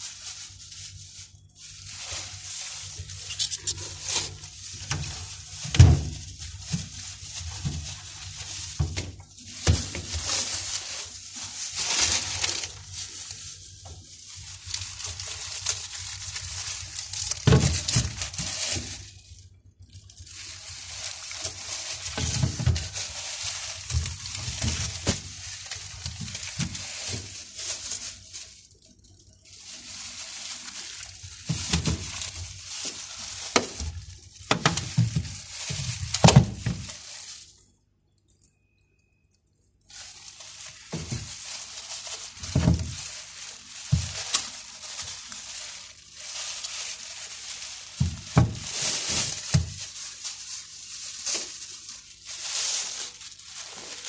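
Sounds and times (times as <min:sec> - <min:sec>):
rustling: 0:00.0 - 0:37.6, 0:39.7 - 0:54.0.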